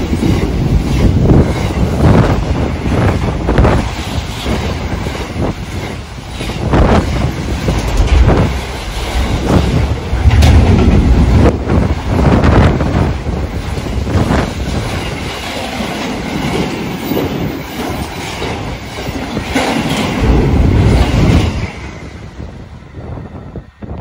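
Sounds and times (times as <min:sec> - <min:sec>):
wheels clattering over rail joints: 0:00.0 - 0:21.8
freight train rumbling past: 0:00.0 - 0:24.0.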